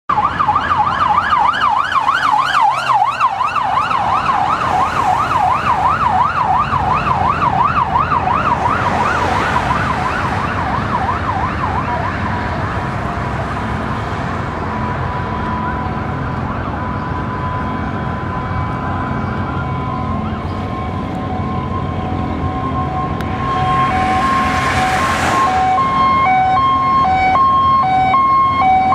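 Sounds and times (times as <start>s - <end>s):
emergency vehicle siren yelping: 0.1s - 28.9s
road traffic: 0.1s - 28.9s.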